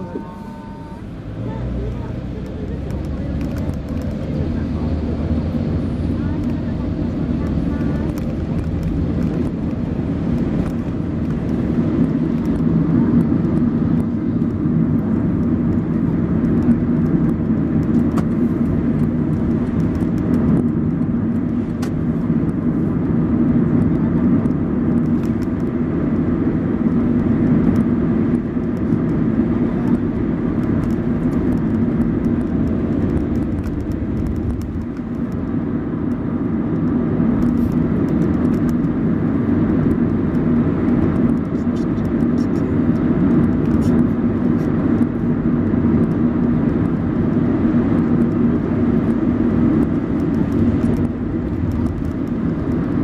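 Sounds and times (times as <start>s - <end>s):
car engine hum: 0.0s - 53.0s
tyres on wet asphalt: 0.0s - 53.0s.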